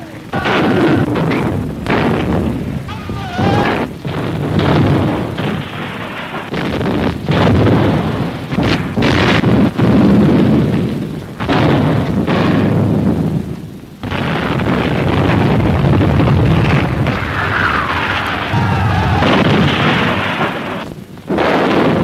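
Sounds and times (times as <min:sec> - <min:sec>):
continuous rumble: 0:00.0 - 0:22.0
explosions and artillery booms: 0:00.0 - 0:22.0.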